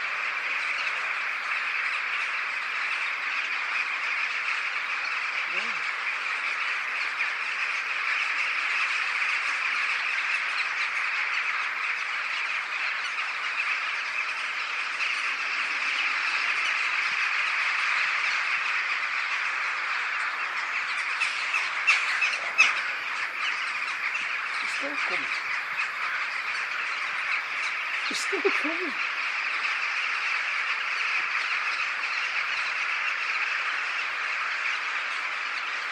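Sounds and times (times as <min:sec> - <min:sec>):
flock of birds chattering: 0:00.0 - 0:35.9.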